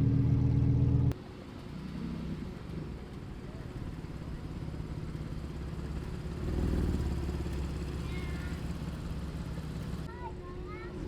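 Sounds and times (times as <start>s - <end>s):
car engine humming: 0.0s - 10.1s.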